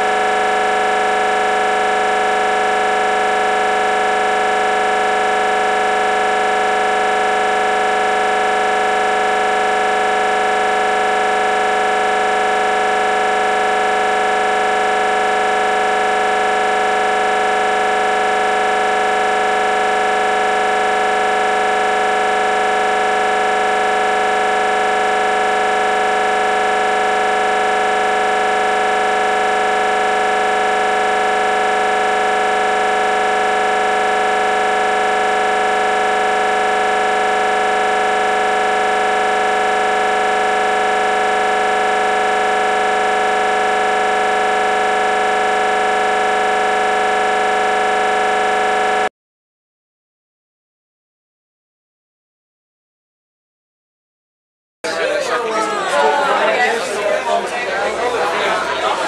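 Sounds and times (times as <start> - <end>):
fire alarm steady tone: 0.0 - 49.1.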